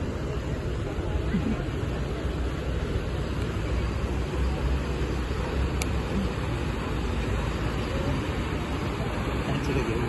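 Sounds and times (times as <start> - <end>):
boat motor and churning water: 0.0 - 10.0
wind: 0.0 - 10.0.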